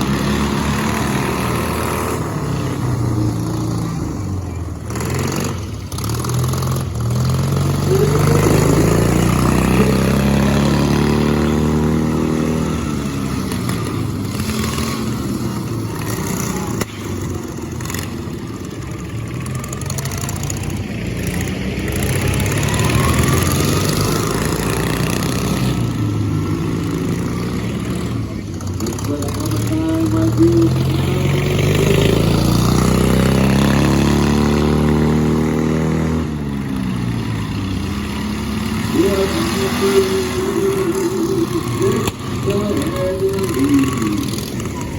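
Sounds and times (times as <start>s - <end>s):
lawn mower engines revving: 0.0s - 44.9s.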